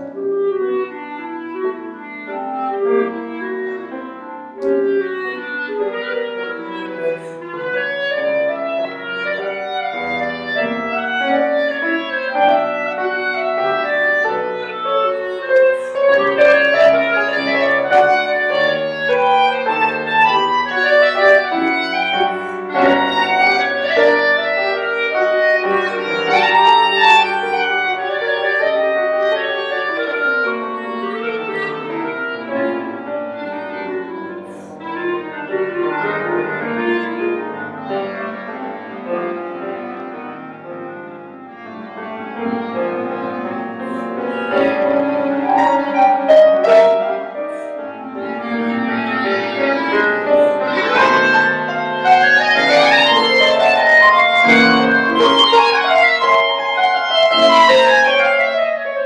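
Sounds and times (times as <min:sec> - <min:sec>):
clarinet: 0:00.0 - 0:59.0
grand piano: 0:00.0 - 0:59.0.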